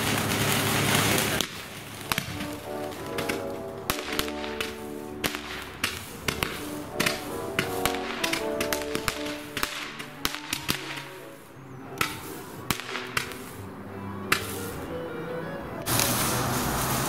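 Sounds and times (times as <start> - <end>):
fireworks cracking and popping: 0.0 - 13.7, 14.3 - 14.9, 15.8 - 17.0
background music: 2.0 - 17.0.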